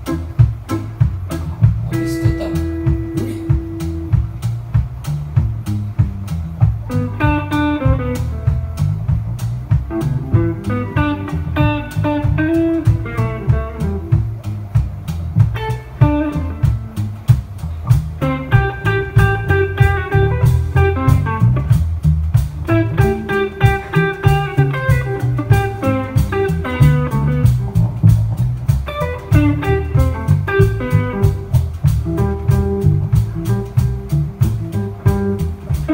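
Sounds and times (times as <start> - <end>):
electric guitar lead: 0.0 - 4.8, 5.4 - 35.9
bass guitar: 0.0 - 35.9
drum kit steady beat: 0.0 - 35.9.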